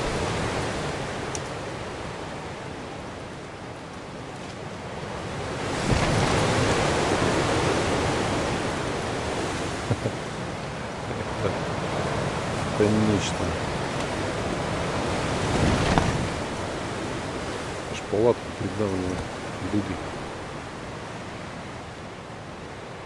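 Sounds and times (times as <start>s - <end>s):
gusty wind buffeting a tent: 0.0s - 23.0s.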